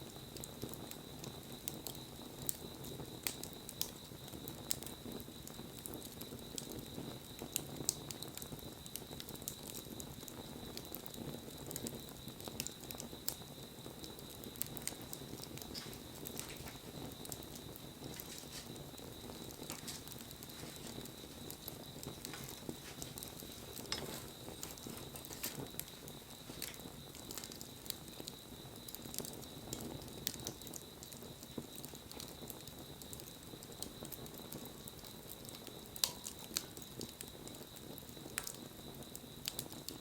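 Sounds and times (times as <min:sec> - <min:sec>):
burning wood crackling and popping: 0:00.0 - 0:40.0.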